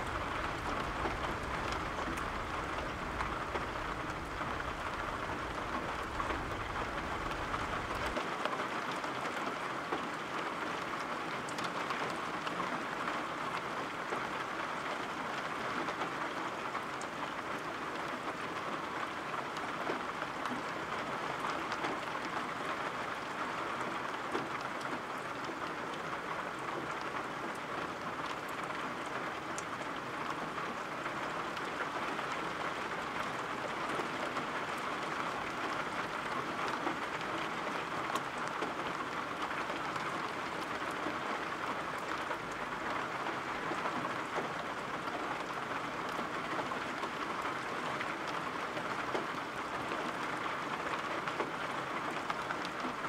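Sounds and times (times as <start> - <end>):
faint raindrop ticks: 0.0 - 53.0
steady rain hiss: 0.0 - 53.0.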